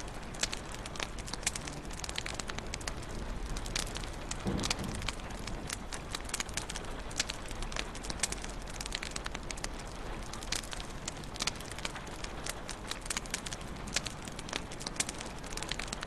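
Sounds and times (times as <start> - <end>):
low fire hiss: 0.0 - 16.0
wood fire crackling: 0.0 - 16.0.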